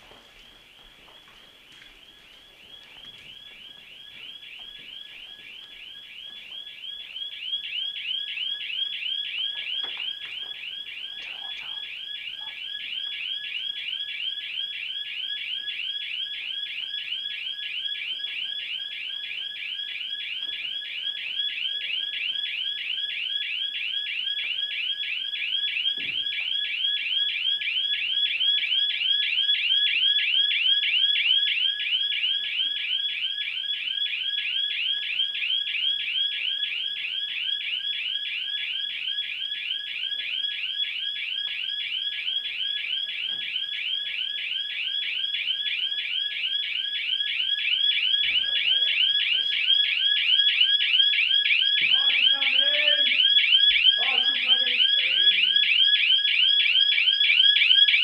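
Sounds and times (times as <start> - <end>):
electronic alarm warbling: 2.0 - 58.0.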